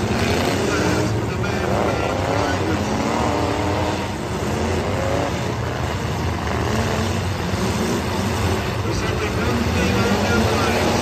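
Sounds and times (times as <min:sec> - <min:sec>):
many car engines revving: 0:00.0 - 0:11.0.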